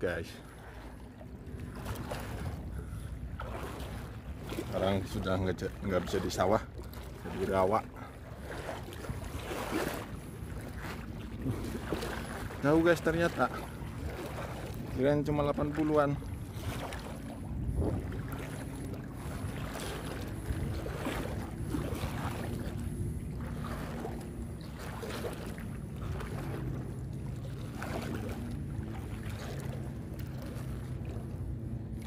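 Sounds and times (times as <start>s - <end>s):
low steady hum: 0.0s - 32.0s
wading through water sloshing: 0.0s - 32.0s.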